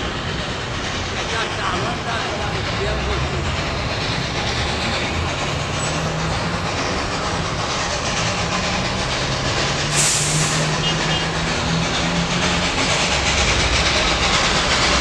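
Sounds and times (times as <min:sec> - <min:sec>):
steam hiss: 0:00.0 - 0:15.0
steam train rumbling: 0:00.0 - 0:15.0.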